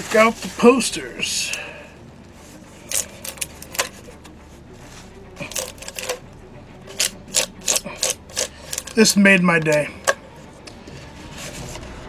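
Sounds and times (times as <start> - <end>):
paper wrapping crinkling: 0.0 - 1.8, 2.4 - 6.2, 6.8 - 12.0.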